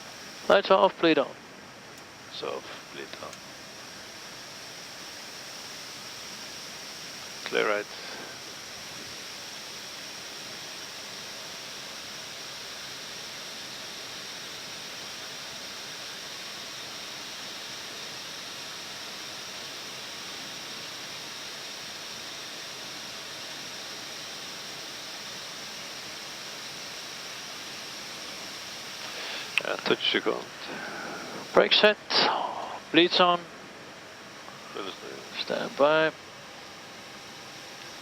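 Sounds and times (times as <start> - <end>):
air-conditioning airflow hiss: 0.0 - 38.0.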